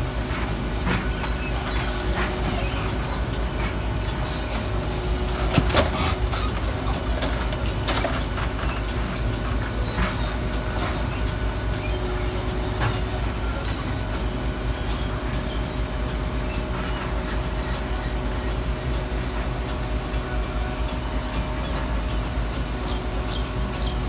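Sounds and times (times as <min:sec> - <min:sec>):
garbage truck engine running: 0:00.0 - 0:24.0.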